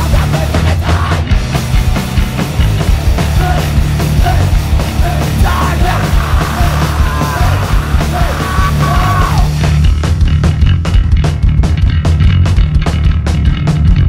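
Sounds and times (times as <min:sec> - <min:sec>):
hardcore punk band playing: 0:00.0 - 0:14.0.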